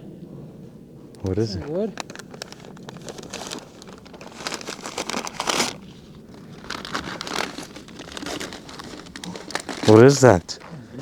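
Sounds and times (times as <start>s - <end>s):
wrapper crinkling and rustling: 1.3s - 10.7s.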